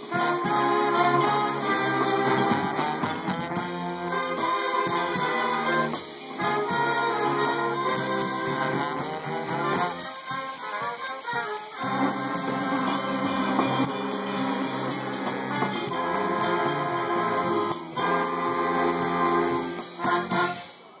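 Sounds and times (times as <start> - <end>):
swing big band playing: 0.0 - 21.0.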